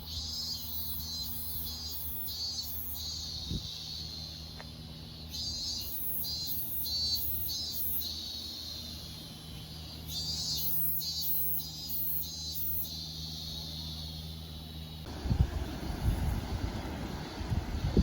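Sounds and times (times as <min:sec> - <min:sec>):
cicadas buzzing: 0:00.0 - 0:18.0
steady low hum: 0:00.0 - 0:18.0.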